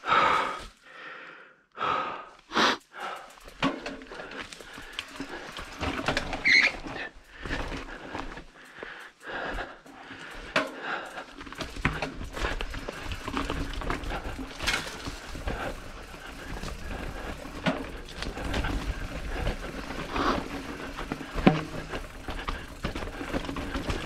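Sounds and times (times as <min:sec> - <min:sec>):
bike clicks and clatters: 0:01.8 - 0:24.0
mountain bike rattling: 0:02.4 - 0:24.0.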